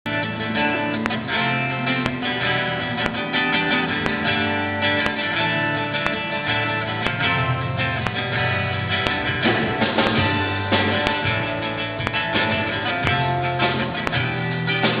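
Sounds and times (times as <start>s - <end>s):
acoustic guitar music: 0.1s - 15.0s
sharp metronome ticks: 0.9s - 15.0s.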